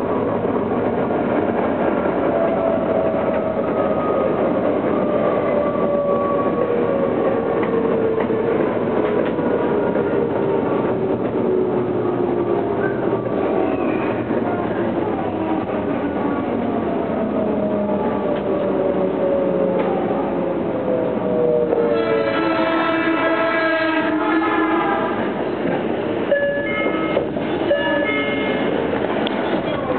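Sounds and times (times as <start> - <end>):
wheel and rail noise: 0.0 - 29.9.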